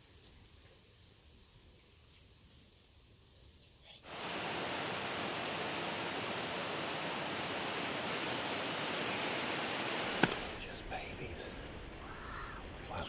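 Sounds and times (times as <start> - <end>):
wind rustling trees and grass: 0.0 - 13.0.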